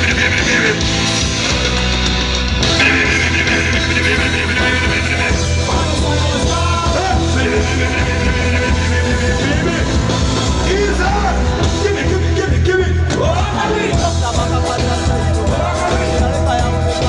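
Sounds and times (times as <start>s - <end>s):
live band music over loudspeakers: 0.0s - 17.0s
person singing: 2.6s - 17.0s.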